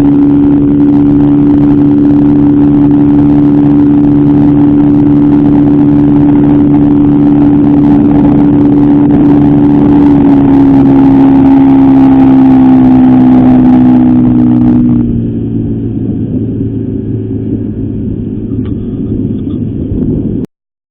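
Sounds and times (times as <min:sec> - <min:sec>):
outboard motor running: 0:00.0 - 0:20.4.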